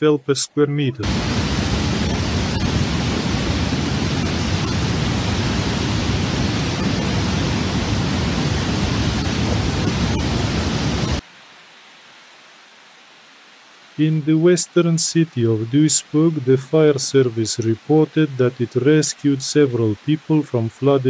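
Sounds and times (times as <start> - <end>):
faint hiss: 0.0 - 21.0
floodwater torrent rushing: 0.9 - 11.2, 13.9 - 21.0.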